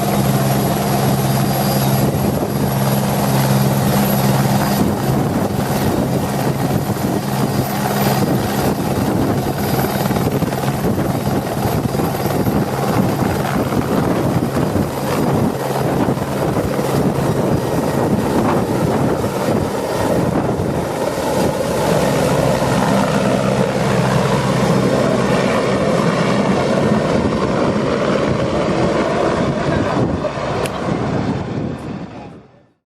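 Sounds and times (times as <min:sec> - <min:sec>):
helicopter rotor noise: 0:00.0 - 0:32.6
high turbine whine: 0:00.0 - 0:32.6.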